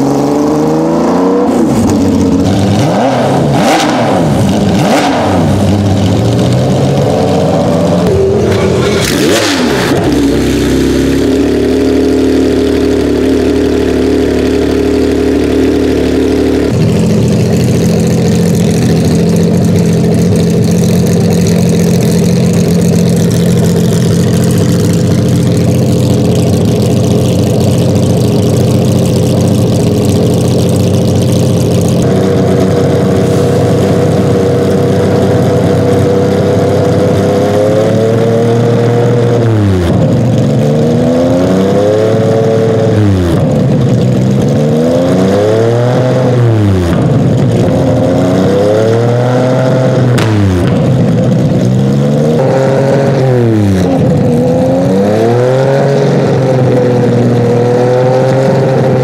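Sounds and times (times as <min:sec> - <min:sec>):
engine throttle blips: 0:00.0 - 0:59.0
race car engines idling: 0:00.0 - 0:59.0.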